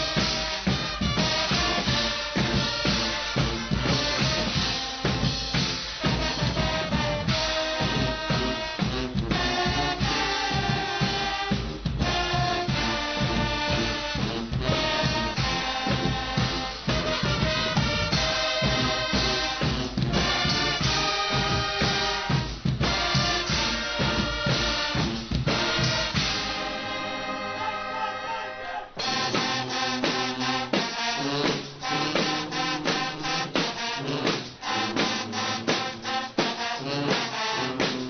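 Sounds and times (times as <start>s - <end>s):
drum kit and percussion: 0.0s - 28.0s, 28.9s - 38.0s
brass band playing: 0.0s - 38.0s
trumpets and trombones: 0.0s - 38.0s.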